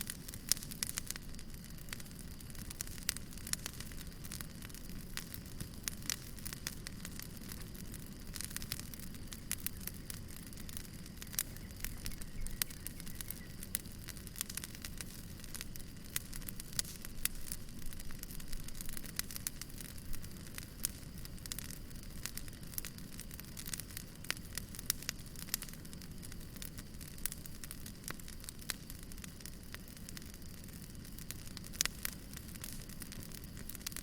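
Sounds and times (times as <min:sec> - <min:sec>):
low rumble of burning: 0:00.0 - 0:34.0
wood fire crackling: 0:00.0 - 0:34.0.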